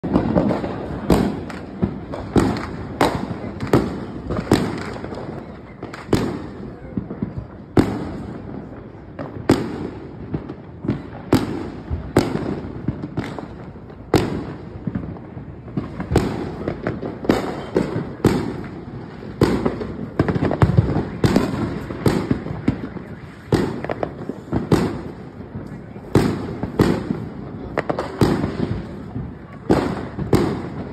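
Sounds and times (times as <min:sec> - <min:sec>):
fireworks bangs: 0:00.0 - 0:30.9.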